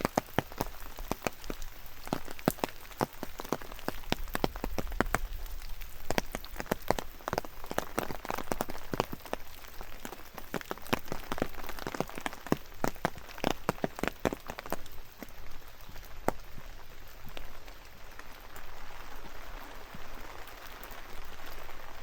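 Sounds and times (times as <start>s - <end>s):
raindrops tapping close by: 0.0s - 22.0s
soft hiss of rainfall: 0.0s - 22.0s.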